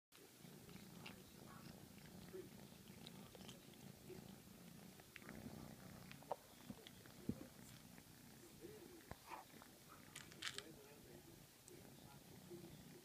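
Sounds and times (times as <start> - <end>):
kitten purring: 0.2 - 13.0.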